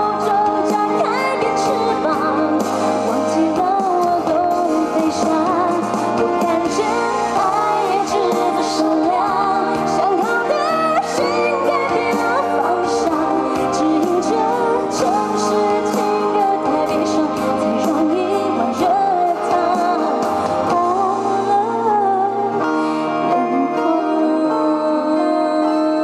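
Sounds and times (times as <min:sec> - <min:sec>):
female singer with band: 0:00.0 - 0:26.0.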